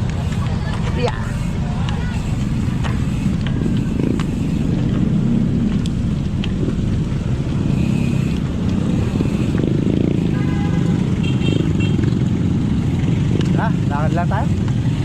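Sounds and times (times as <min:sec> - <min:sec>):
motorcycles in road traffic: 0:00.0 - 0:15.0.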